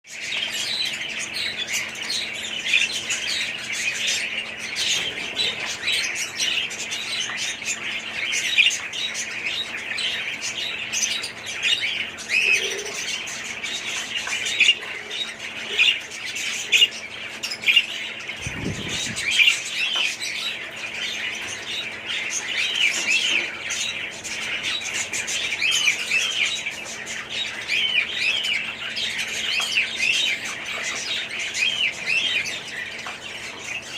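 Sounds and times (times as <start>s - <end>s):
budgerigars chattering and chirping: 0.1s - 33.9s
steady low hum: 0.3s - 29.5s.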